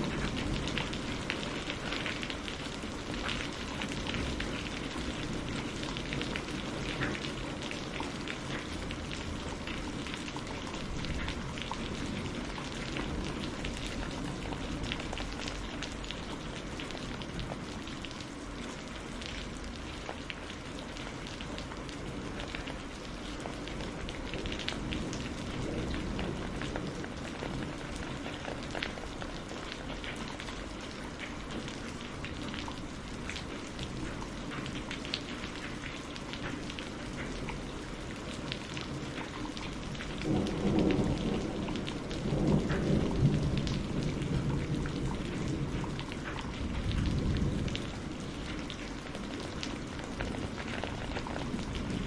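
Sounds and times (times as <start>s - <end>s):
raindrops ticking on surface: 0.0s - 52.0s
steady rainfall hiss: 0.0s - 52.0s.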